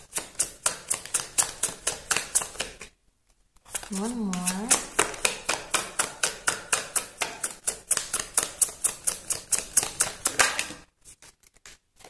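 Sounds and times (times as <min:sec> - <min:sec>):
cards being shuffled: 0:00.2 - 0:05.9, 0:07.7 - 0:12.0.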